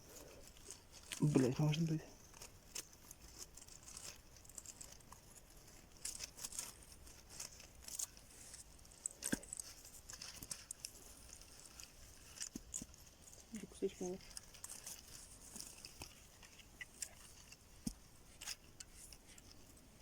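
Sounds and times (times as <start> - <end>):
hands scratching and clicking on parts: 0.0 - 20.0.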